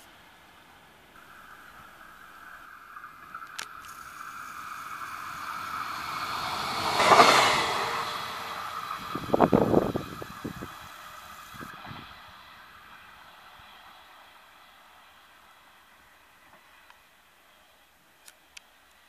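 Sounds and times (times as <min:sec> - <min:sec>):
electric railcar passing: 0:00.0 - 0:19.0.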